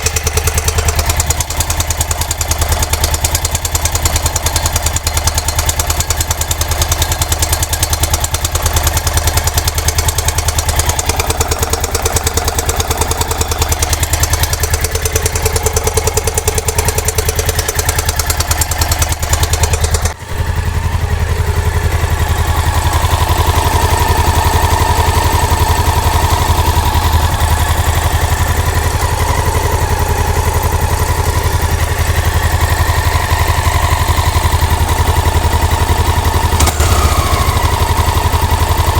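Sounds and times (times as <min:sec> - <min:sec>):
fast clacking inside engine: 0:00.0 - 0:20.2, 0:22.6 - 0:38.9
motorcycle engine idling: 0:00.0 - 0:38.9.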